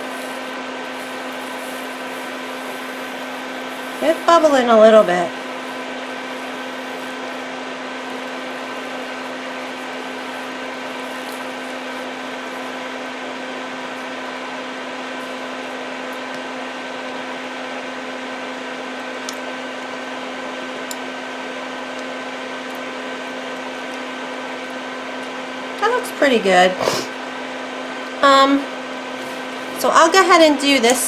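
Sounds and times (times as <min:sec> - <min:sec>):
electric fan humming: 0:00.0 - 0:31.0.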